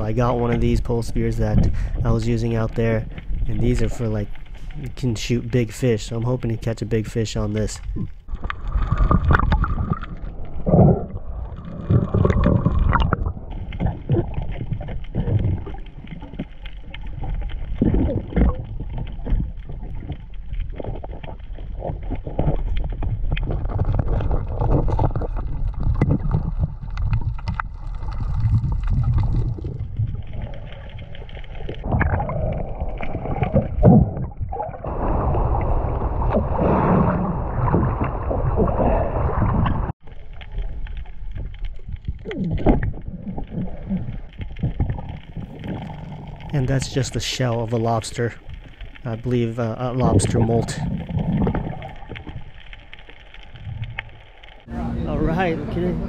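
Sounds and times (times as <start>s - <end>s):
underwater rushing and gurgling: 0.0s - 56.0s.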